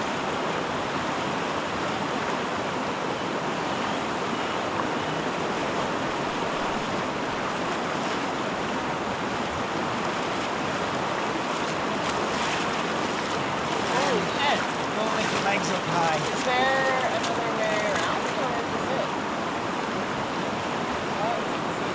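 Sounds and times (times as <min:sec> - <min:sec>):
stream water rushing: 0:00.0 - 0:21.9.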